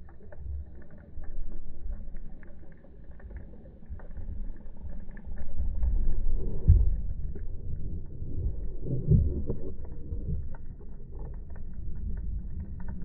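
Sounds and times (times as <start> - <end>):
faint crackling clicks: 0.0 - 13.0
muffled underwater water rumble: 0.0 - 13.0.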